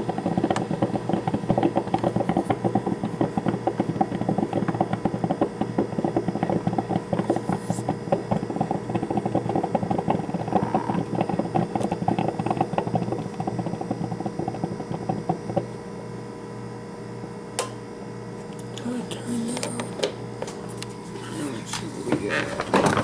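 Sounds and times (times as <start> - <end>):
coffee maker gurgling and sputtering: 0.0 - 23.0.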